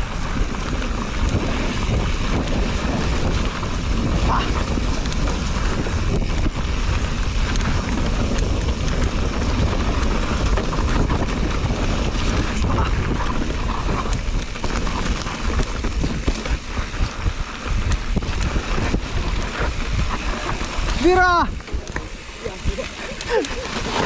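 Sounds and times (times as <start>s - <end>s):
bike clicks and rattles: 0.0s - 24.0s
tyres on dirt and leaves: 0.0s - 24.0s
wind noise on microphone: 0.0s - 24.0s.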